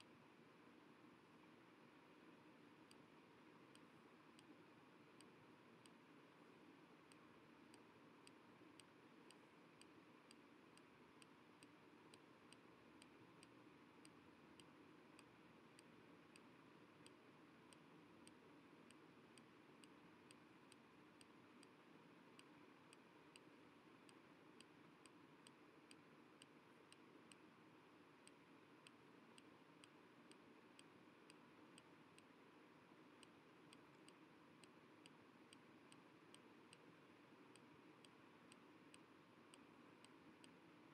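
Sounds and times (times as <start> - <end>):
faint steady hiss: 0.0 - 40.9
faint ticking: 2.6 - 40.9.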